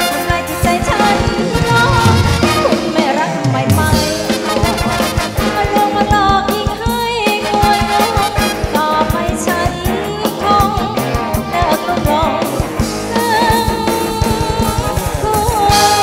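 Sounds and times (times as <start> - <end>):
dance band playing: 0.0 - 16.0
woman singing: 0.0 - 16.0.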